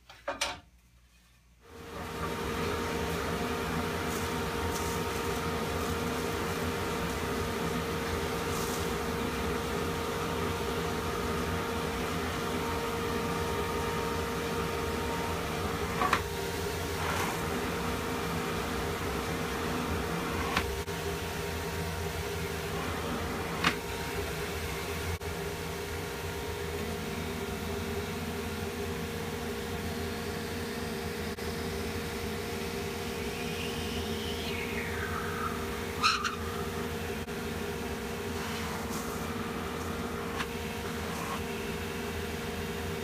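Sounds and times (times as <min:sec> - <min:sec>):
dust collector humming: 0:01.6 - 0:43.0.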